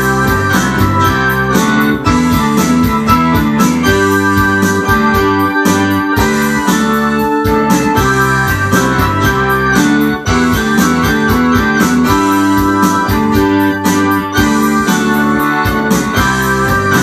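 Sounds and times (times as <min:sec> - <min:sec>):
steady drum beat: 0:00.0 - 0:17.0
synthesizer keyboard chords: 0:00.0 - 0:17.0.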